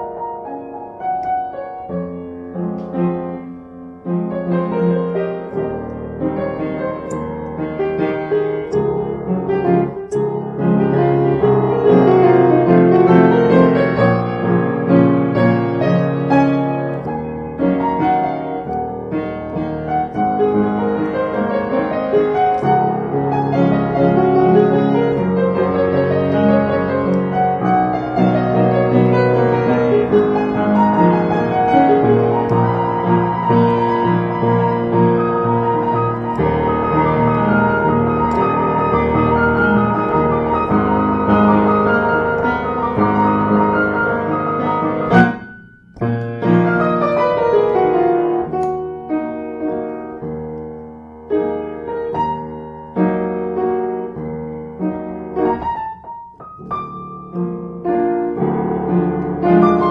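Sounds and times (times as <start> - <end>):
solo upright piano: 0.0 - 59.9.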